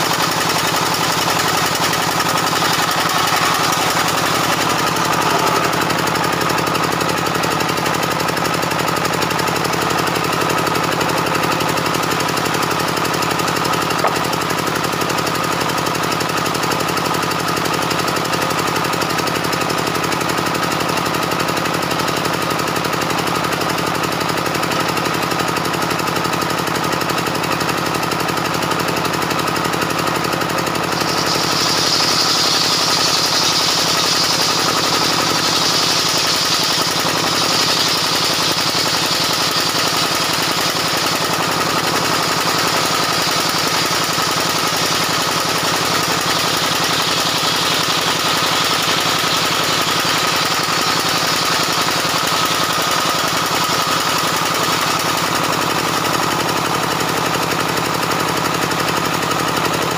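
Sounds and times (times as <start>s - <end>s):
circular saw running: 0.0s - 59.9s.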